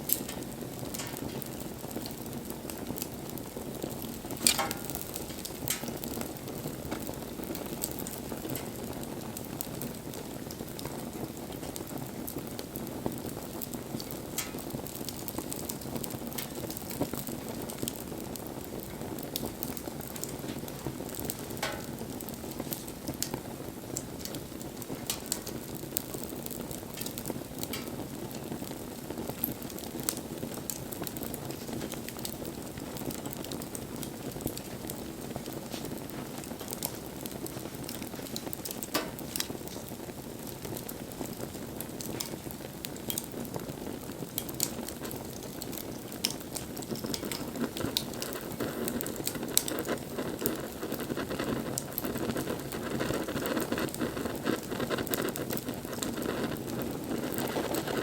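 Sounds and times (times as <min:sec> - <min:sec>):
campfire flames burning: 0:00.0 - 0:58.0
fire crackling and popping: 0:00.0 - 0:58.0.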